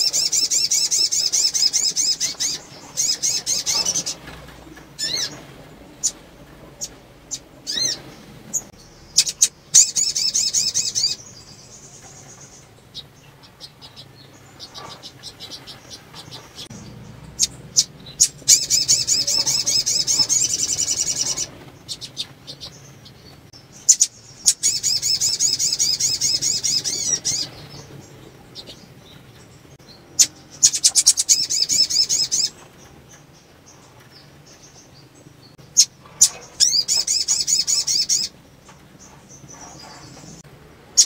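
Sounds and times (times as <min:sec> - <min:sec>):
bird trilling twitter: 0:00.0 - 0:04.3, 0:05.0 - 0:05.4, 0:06.8 - 0:29.2, 0:29.8 - 0:32.9, 0:33.7 - 0:38.3.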